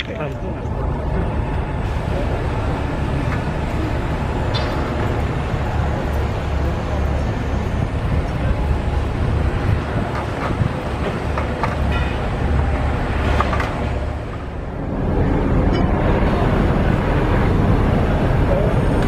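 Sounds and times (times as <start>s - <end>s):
heavy machinery engine rumble: 0.0s - 19.0s.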